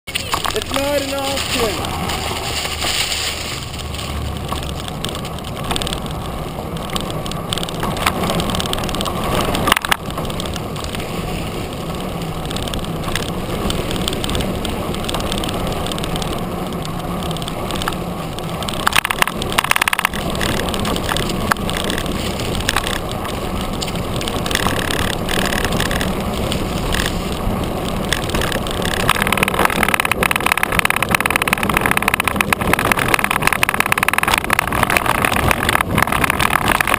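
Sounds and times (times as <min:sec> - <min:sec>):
bike tyres on dirt: 0:00.1 - 0:36.9.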